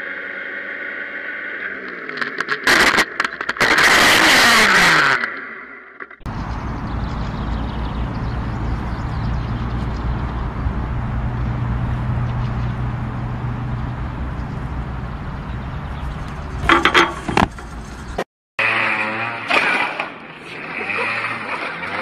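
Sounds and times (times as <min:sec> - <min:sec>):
outdoor rumbling noise: 0:00.0 - 0:22.0.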